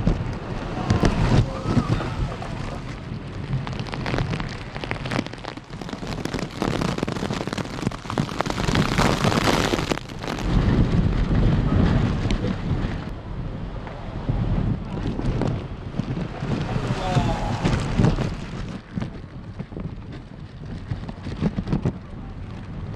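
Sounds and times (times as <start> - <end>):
heavy rain: 0.0 - 22.9
wind buffeting microphone: 0.0 - 22.9.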